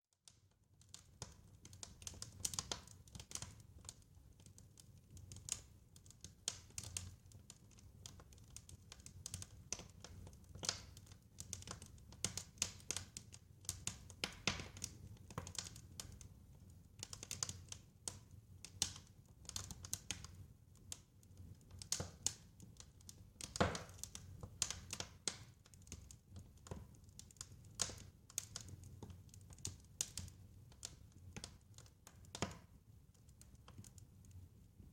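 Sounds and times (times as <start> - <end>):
wood fire crackling and popping: 0.2 - 34.9.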